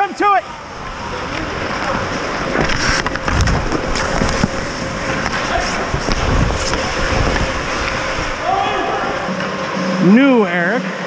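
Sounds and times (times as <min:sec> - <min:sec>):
skates scraping ice: 0:00.6 - 0:10.0.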